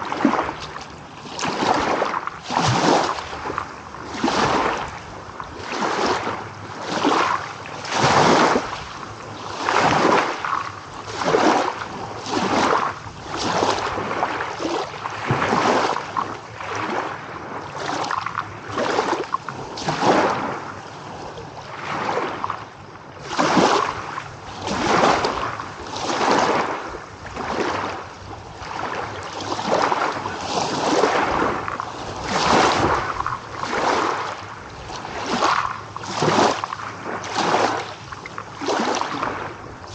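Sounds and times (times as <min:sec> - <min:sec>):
small waves lapping and splashing: 0:00.0 - 0:39.9.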